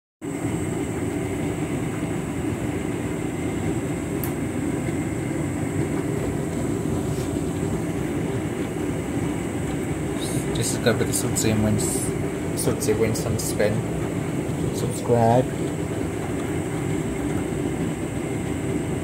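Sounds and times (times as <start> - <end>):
washing machine drum rumbling: 0.8 - 19.0.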